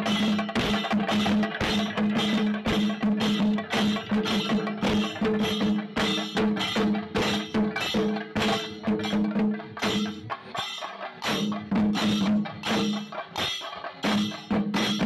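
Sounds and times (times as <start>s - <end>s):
drum strokes in quick beat: 0.0s - 15.0s.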